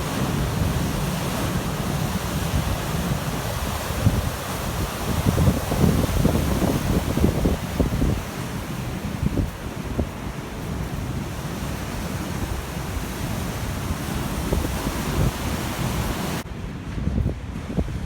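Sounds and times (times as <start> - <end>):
hiss of surf: 0.0 - 18.0
waves breaking on beach: 0.0 - 18.0
wind buffeting microphone: 0.0 - 18.0.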